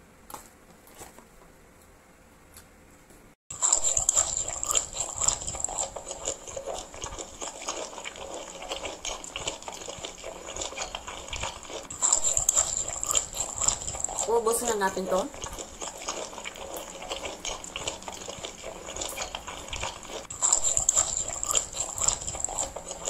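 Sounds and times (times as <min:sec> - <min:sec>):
crunching and chewing snack: 0:03.5 - 0:23.0.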